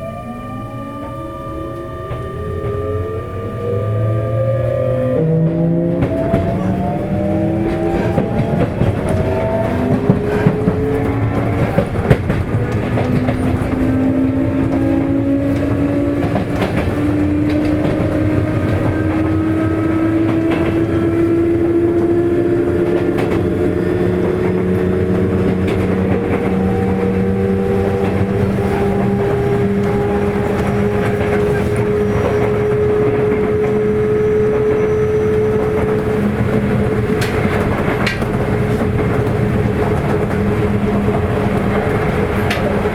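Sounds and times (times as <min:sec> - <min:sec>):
train motors whining: 0:00.0 - 0:42.9
wheels rumbling on rails: 0:00.0 - 0:42.9
rail-joint clacks: 0:00.9 - 0:42.9.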